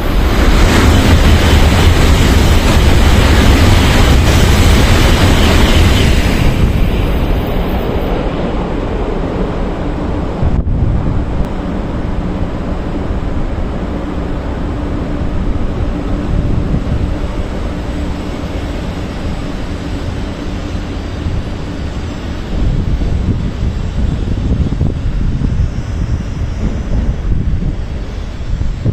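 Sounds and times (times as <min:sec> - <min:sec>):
train rumbling slowly: 0:00.0 - 0:28.9.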